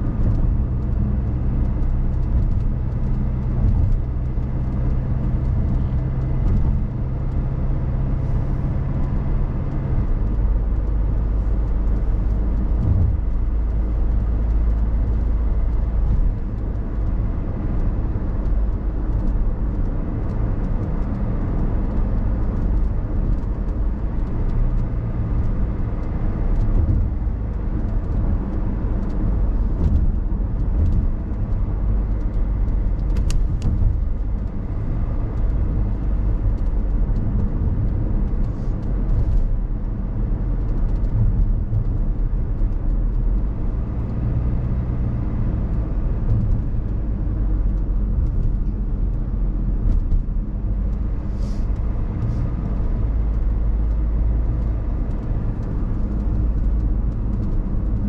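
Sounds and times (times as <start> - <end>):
car engine hum: 0.0 - 58.0
road rumble: 0.0 - 58.0.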